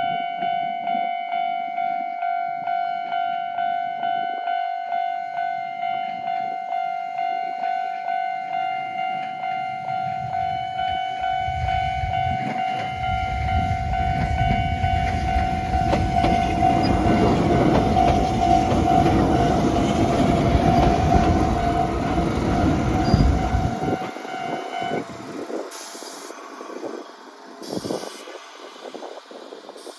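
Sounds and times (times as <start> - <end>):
level-crossing alarm bell ringing: 0.0 - 26.8
train rumble and wheel clatter: 4.9 - 29.9.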